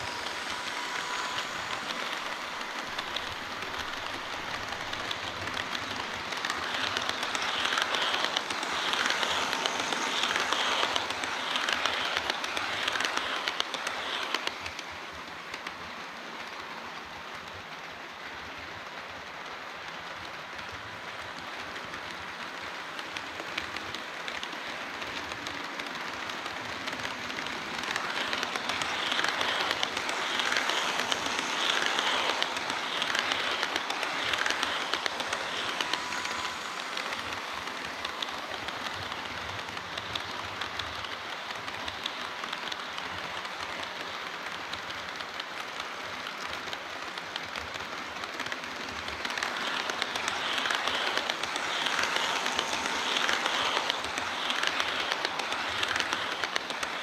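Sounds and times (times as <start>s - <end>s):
model train wheels rattling: 0.0s - 17.8s, 18.5s - 57.0s.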